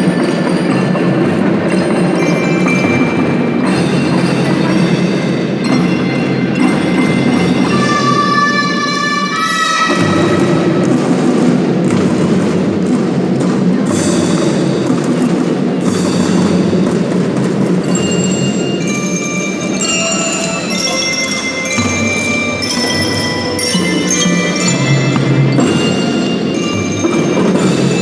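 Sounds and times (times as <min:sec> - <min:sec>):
drum band playing: 0:00.0 - 0:28.0
mallet bells ringing melody: 0:00.0 - 0:28.0.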